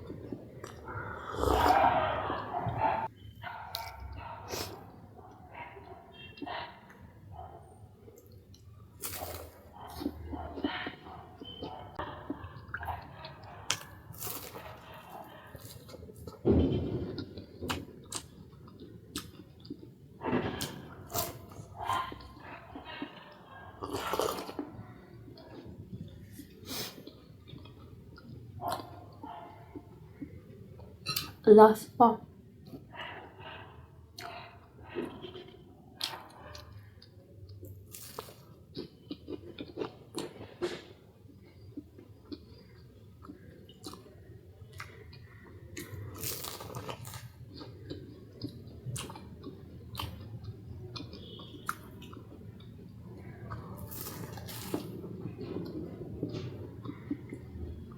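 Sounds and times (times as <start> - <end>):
person chewing food: 0.0 - 5.5, 8.1 - 31.4, 32.6 - 57.9.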